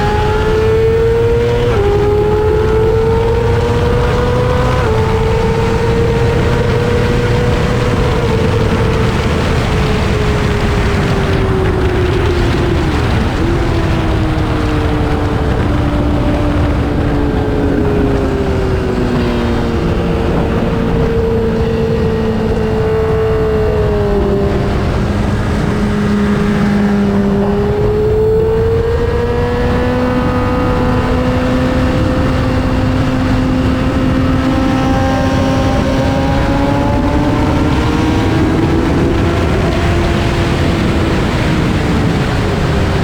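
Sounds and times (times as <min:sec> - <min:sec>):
motorcycle engine running hard: 0:00.0 - 0:43.0
wind rushing: 0:00.0 - 0:43.0.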